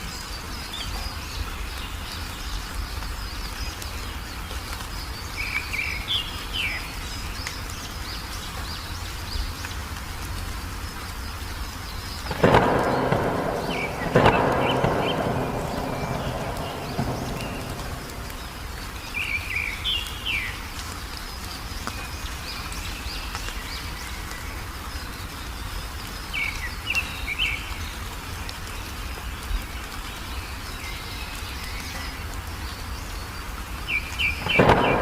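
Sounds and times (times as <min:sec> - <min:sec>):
low background hiss: 0:00.0 - 0:35.0
songbird chirping: 0:00.0 - 0:35.0.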